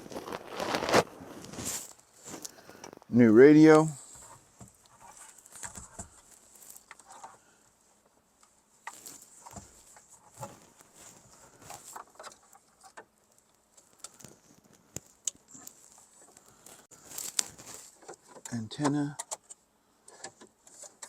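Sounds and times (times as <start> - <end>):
hands handling clicks and rustles: 3.7 - 21.0.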